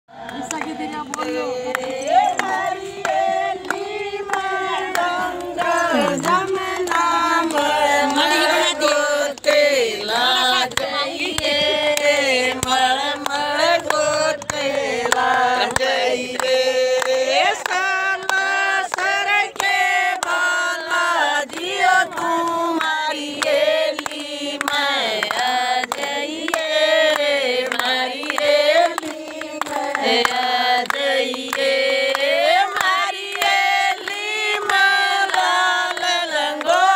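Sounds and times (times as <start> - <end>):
hand-clapping: 0.1 - 36.9
women singing devotional song: 0.1 - 36.9.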